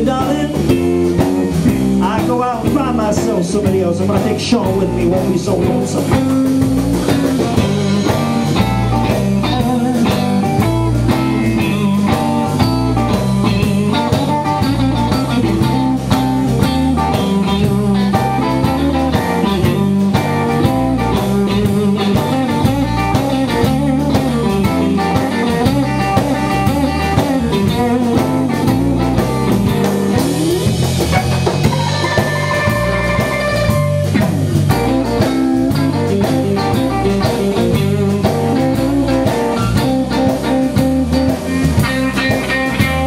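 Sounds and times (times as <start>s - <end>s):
blues band playing: 0.0s - 43.0s
electric guitar lead with bent notes: 0.0s - 43.0s.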